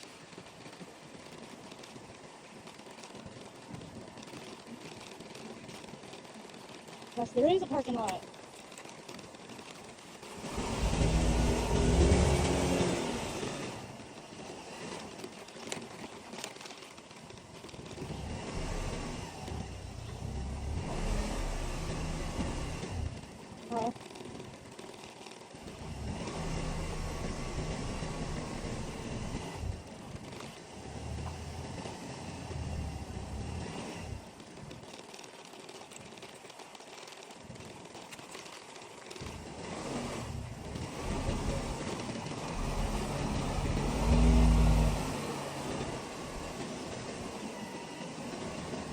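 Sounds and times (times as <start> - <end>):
scooter engine slowing: 0.0 - 48.9.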